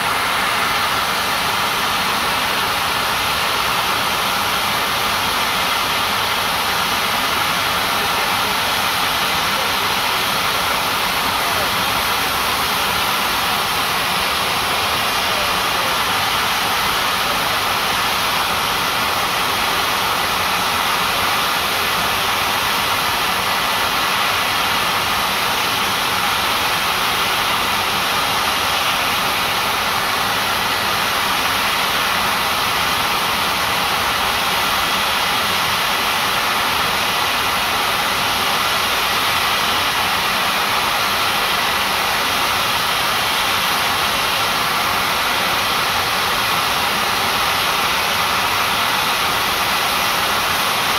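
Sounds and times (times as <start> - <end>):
steam hissing from locomotive: 0.0 - 50.9.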